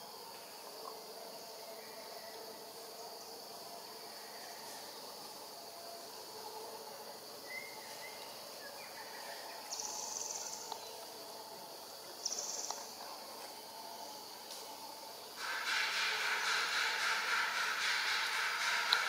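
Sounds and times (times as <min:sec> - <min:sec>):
forest insect chorus: 0:00.0 - 0:19.0
high buzzing insect trills: 0:00.0 - 0:19.0.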